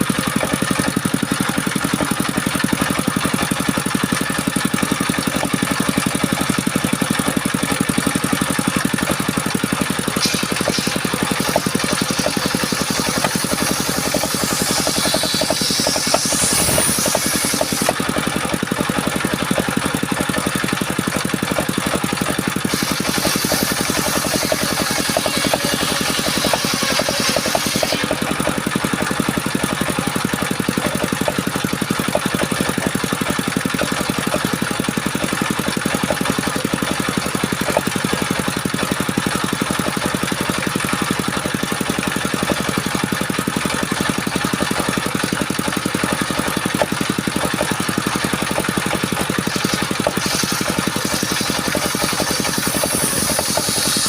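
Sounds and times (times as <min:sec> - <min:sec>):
saw hissing through wood: 0:00.0 - 0:18.6, 0:21.8 - 0:54.0
circular saw machine engine: 0:00.0 - 0:54.0.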